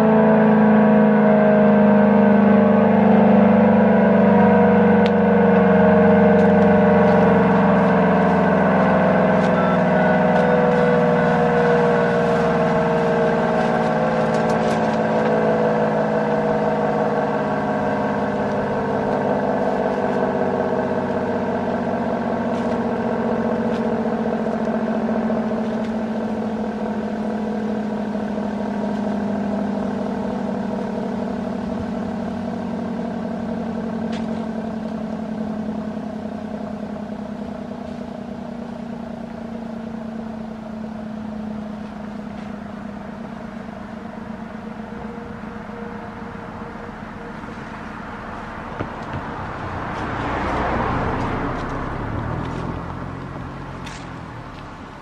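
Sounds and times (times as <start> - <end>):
rotating siren winding down: 0.0 - 55.0.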